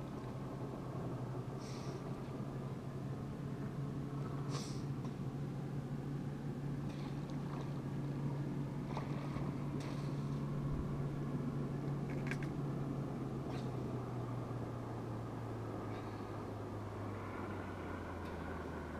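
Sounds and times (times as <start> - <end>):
distant boat engine drone: 0.0 - 18.9.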